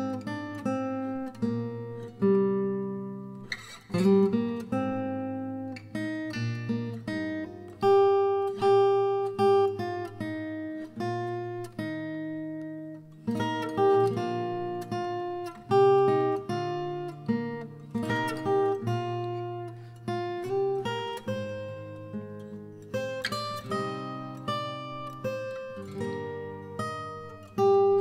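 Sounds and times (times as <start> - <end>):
acoustic guitar melody: 0.0 - 28.0.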